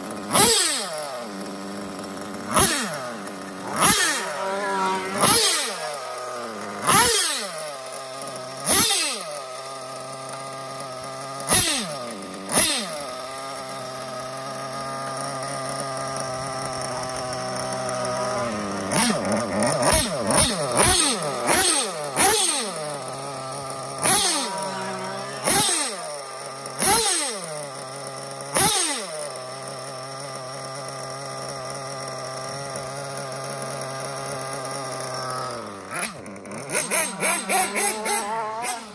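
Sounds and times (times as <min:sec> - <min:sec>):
nitro engine idling and revving: 0:00.0 - 0:38.9.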